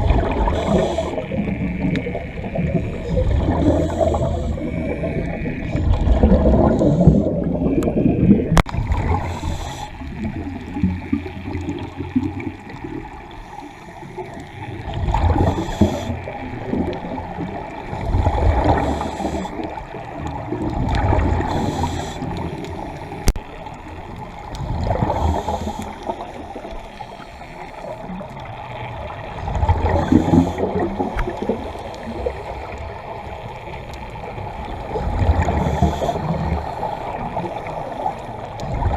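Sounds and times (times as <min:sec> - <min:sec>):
diver exhaling bubbles: 0:00.0 - 0:13.2, 0:14.0 - 0:23.4, 0:24.5 - 0:26.9, 0:27.9 - 0:33.7, 0:34.3 - 0:38.9
quiet underwater gurgling: 0:00.0 - 0:38.9.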